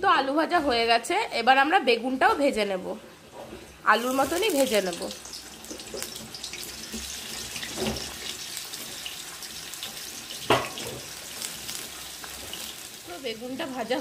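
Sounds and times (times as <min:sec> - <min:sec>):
eggplant frying in hot oil: 0:01.5 - 0:14.0.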